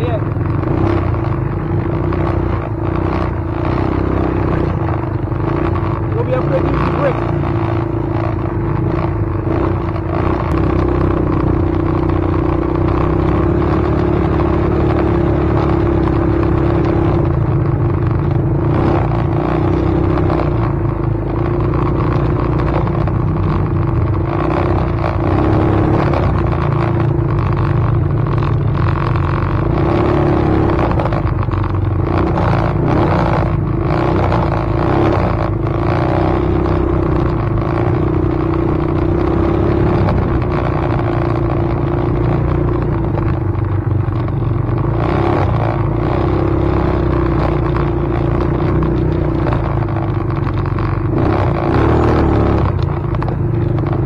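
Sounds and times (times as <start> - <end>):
vehicle rumble: 0.0 - 54.0.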